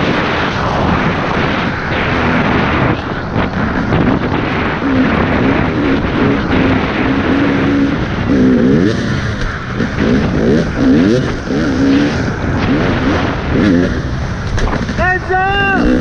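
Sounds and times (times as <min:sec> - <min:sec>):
dirt bike engine revving: 0:00.0 - 0:16.0
steady rush of noise: 0:00.0 - 0:16.0.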